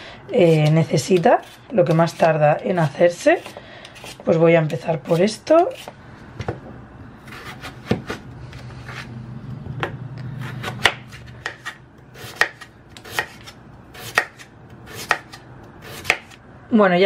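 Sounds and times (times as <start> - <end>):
knife cutting potato on board: 0.4 - 6.0, 7.2 - 9.1, 9.8 - 16.4.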